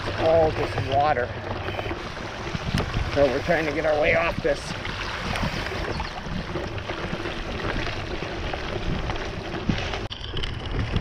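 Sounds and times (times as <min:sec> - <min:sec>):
bicycle tyres splashing through water: 0:00.0 - 0:11.0
wind buffeting microphone: 0:00.0 - 0:11.0.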